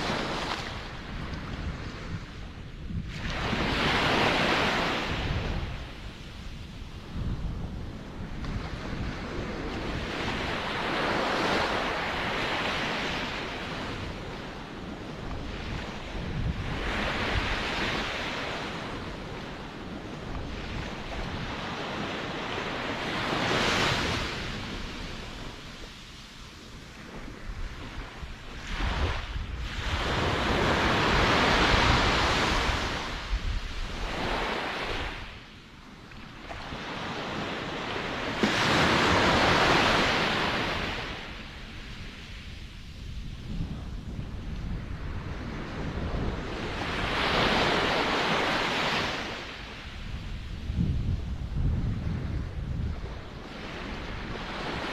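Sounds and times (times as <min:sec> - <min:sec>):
waves breaking on shore: 0:00.0 - 0:35.5, 0:36.1 - 0:54.9
wind rumble on microphone: 0:00.0 - 0:54.9.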